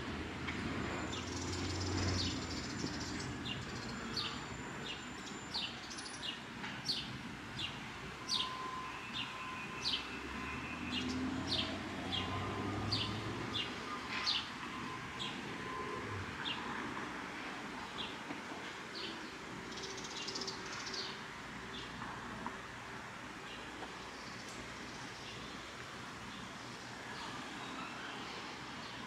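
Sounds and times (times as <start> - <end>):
low hum of city traffic: 0.0 - 29.0.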